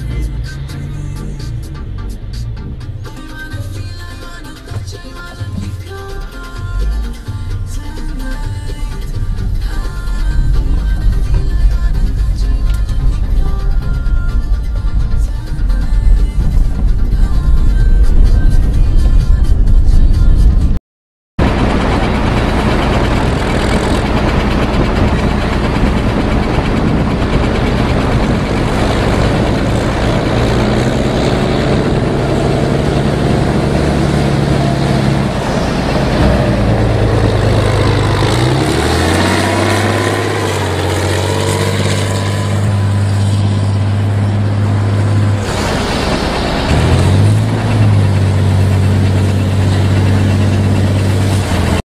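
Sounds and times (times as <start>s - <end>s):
heavy diesel truck engine: 0.0s - 20.8s, 21.4s - 51.8s.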